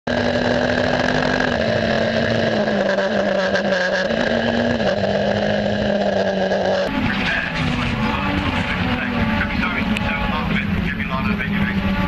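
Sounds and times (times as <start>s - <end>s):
race car engine: 0.1s - 12.0s.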